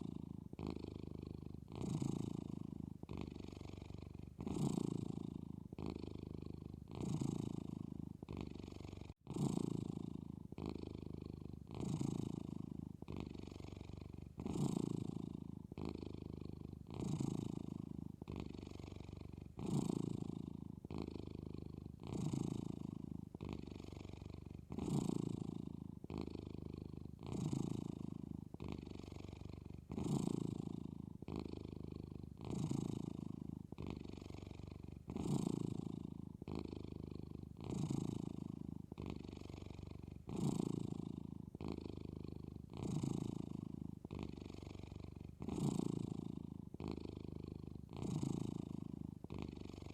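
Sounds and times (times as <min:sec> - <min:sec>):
kitten purring: 0:00.0 - 0:49.9.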